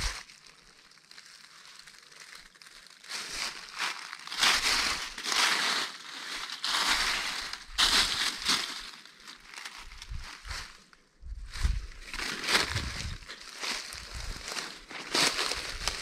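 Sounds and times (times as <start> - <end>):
footsteps through dry leaves: 0.0 - 16.0.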